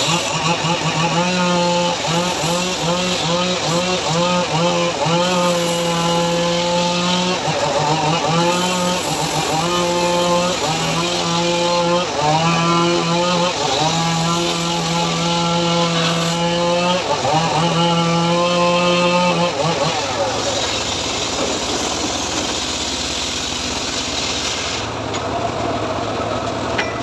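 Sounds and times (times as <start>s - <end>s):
circular sawmill cutting log: 0.0s - 27.0s.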